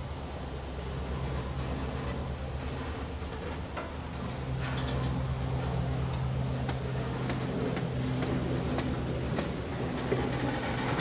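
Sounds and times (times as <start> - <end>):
train engine hum and rumble: 0.0 - 11.0
wheels clicking and squeaking on rails: 0.0 - 11.0.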